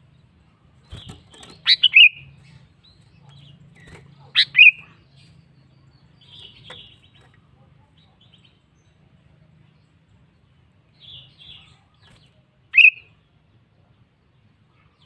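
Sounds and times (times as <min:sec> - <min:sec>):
soft bird chirps: 0:00.1 - 0:13.3.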